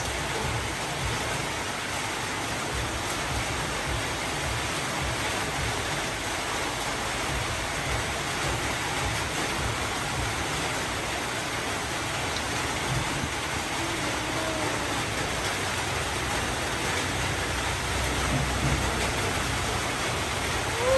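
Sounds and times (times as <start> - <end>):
steady rushing noise: 0.0 - 20.9.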